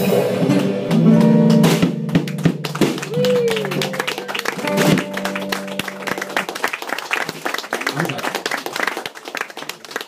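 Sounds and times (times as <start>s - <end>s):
audience clapping: 0.6s - 10.0s.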